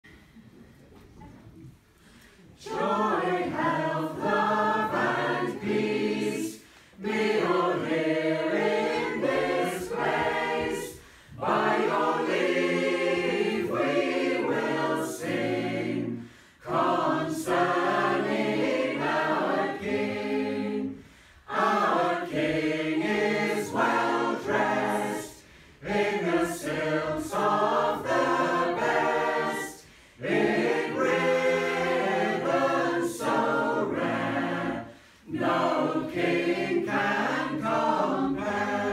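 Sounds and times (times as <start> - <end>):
choir singing a cappella: 2.5 - 38.9.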